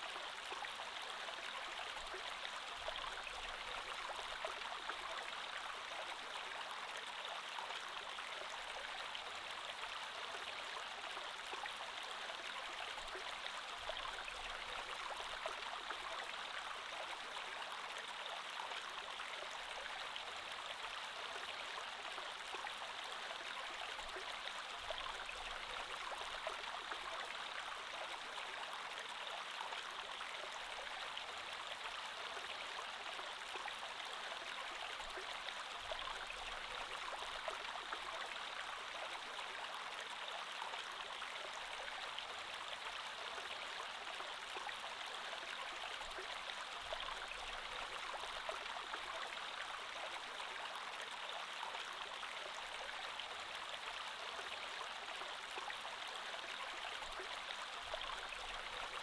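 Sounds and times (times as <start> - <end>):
creek water flowing over stones: 0.0 - 59.0.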